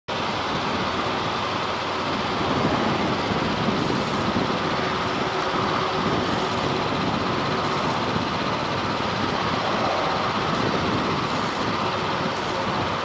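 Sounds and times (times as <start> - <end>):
distant jet engine hiss: 1.0 - 13.0.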